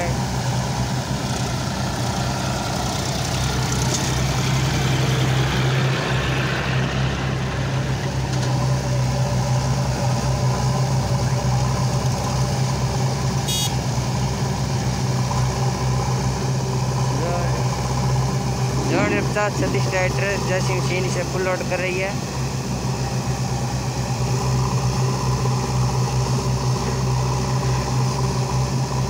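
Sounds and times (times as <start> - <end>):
diesel engines running: 0.0 - 29.0.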